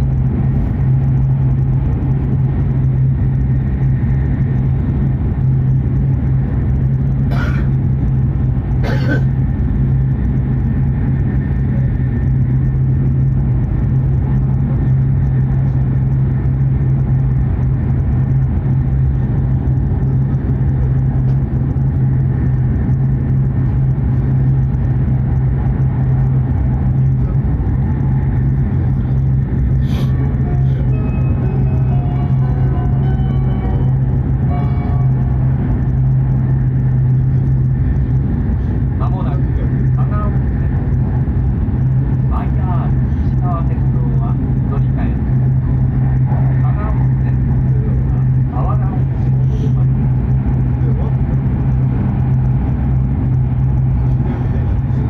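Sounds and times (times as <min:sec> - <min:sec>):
train cabin rumble and hum: 0:00.0 - 0:55.0.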